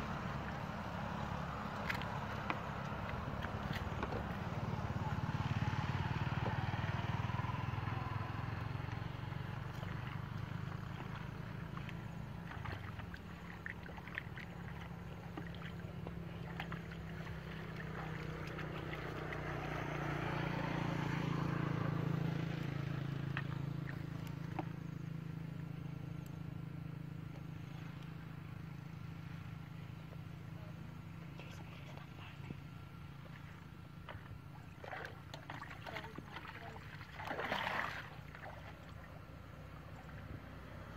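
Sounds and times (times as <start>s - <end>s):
wading splashes in water: 0.0s - 26.5s, 27.1s - 40.9s
small engine droning: 0.0s - 40.9s.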